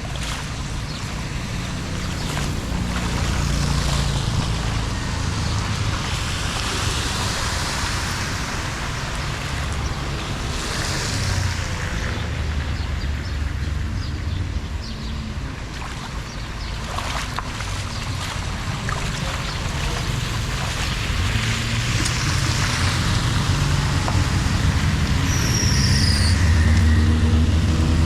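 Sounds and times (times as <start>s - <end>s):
floodwater rushing through drain: 0.0s - 28.0s
low engine hum: 0.0s - 28.0s.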